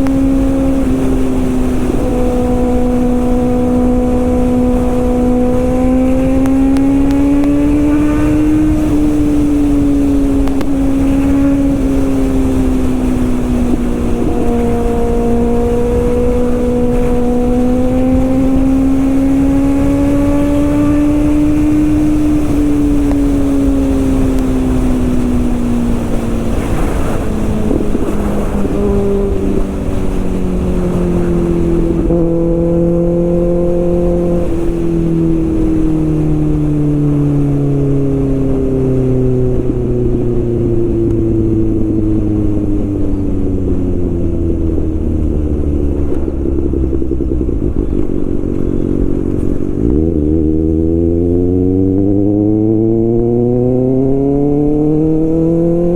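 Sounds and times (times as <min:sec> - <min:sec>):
motorcycle engine at high revs: 0:00.0 - 0:55.9
wind on microphone: 0:00.0 - 0:55.9.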